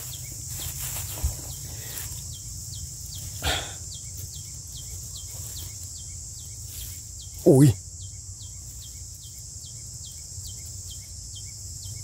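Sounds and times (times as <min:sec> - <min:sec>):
field insects calling: 0:00.0 - 0:12.0.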